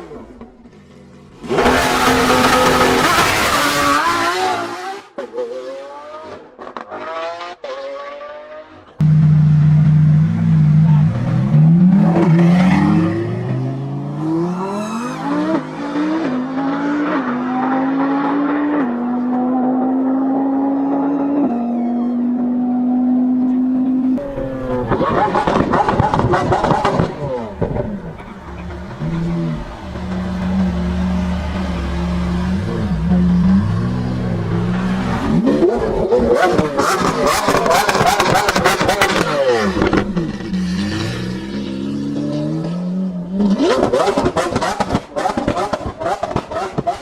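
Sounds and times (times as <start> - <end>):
sports car engine accelerating: 5.7 - 47.0.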